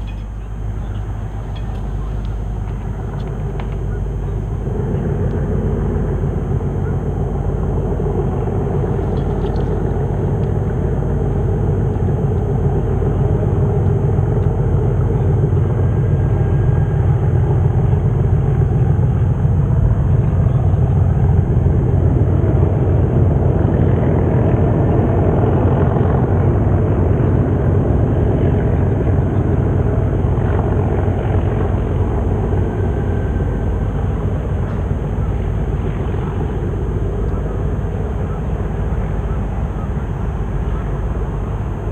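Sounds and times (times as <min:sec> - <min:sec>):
diesel locomotive engines rumbling: 0:00.0 - 0:41.9.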